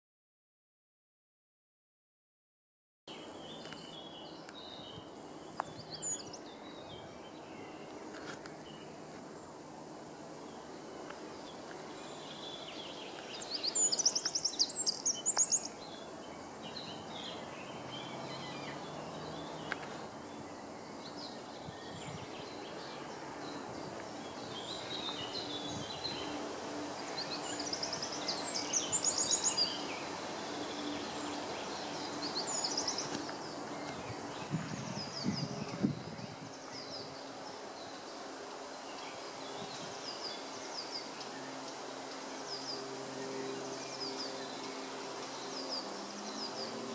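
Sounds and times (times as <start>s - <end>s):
outdoor background noise: 3.1s - 46.9s
small birds singing: 3.1s - 46.9s.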